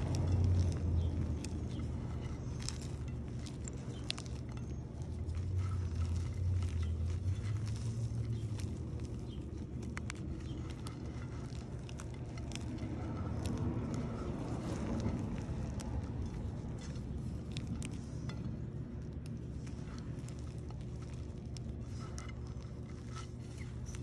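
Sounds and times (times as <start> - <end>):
chalk crunching by hand: 0.0 - 24.0
low rumble: 0.0 - 24.0.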